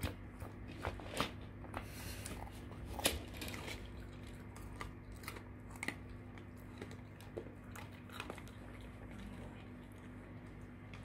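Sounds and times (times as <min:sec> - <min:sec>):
dog crunching green bean: 0:00.0 - 0:11.0.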